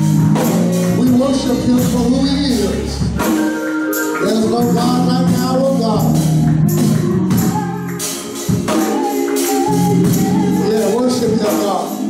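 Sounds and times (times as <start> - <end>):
gospel singing: 0.0 - 12.0
tambourine shaken in rhythm: 0.0 - 12.0.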